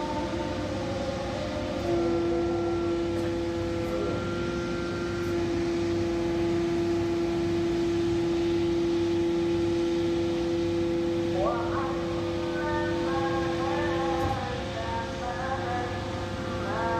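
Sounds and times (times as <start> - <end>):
engine running: 0.0 - 16.9
hydraulic whine: 0.0 - 16.9.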